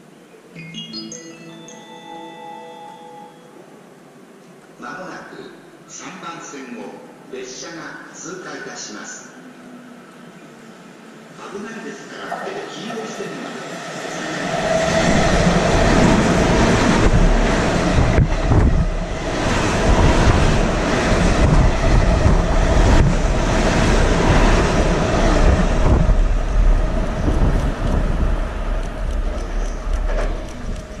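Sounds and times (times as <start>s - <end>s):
electric train passing at speed: 0.0s - 31.0s.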